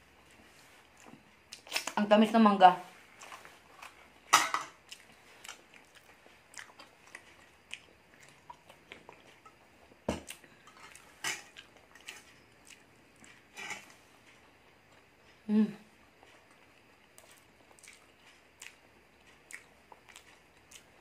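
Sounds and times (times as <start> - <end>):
people chewing: 0.0 - 2.0, 3.0 - 21.0.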